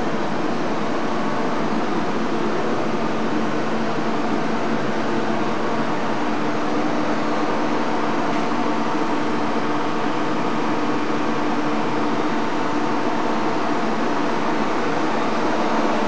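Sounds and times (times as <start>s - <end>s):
machine mechanical hum: 0.0s - 16.0s.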